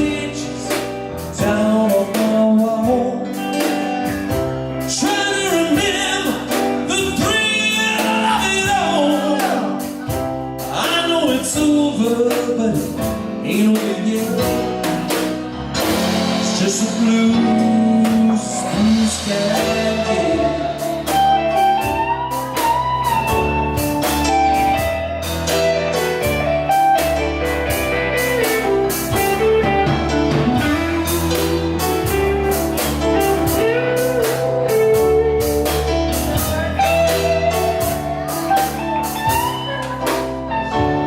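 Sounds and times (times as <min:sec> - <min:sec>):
bass: 0:00.0 - 0:41.0
drums with steady beat: 0:00.0 - 0:41.0
lead guitar: 0:00.0 - 0:41.0.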